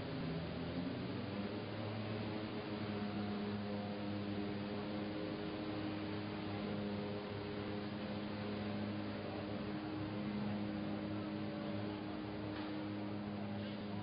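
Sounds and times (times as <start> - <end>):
industrial machine hum: 0.0 - 14.0.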